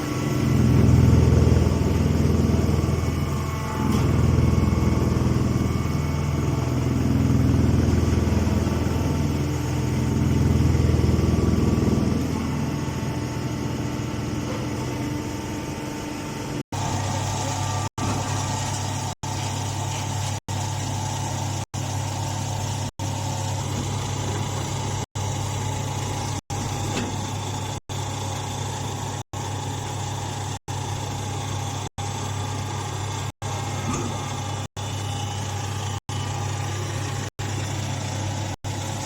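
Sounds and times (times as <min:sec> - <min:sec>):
hydraulic power unit humming: 0:00.0 - 0:39.0.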